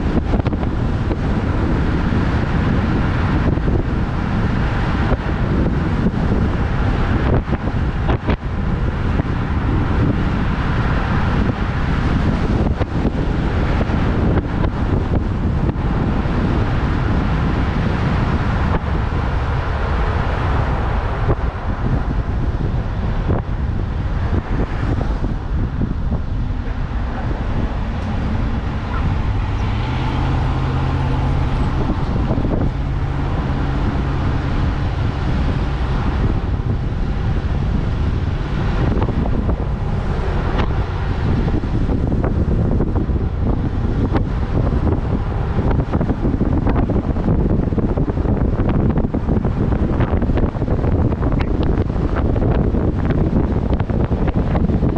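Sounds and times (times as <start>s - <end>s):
vehicle road noise rumble: 0.0s - 54.9s
wind noise on microphone: 0.0s - 54.9s.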